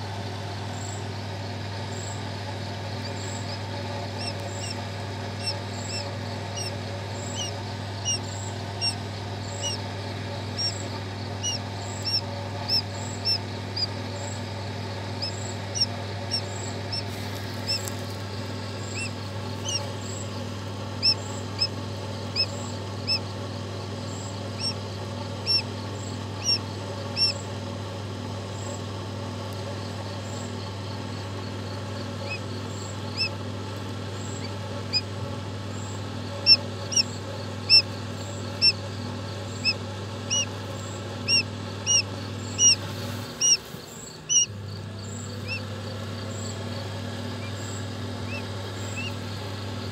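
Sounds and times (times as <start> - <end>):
steady low hum: 0.0 - 49.9
quail chick peeping: 0.3 - 49.9.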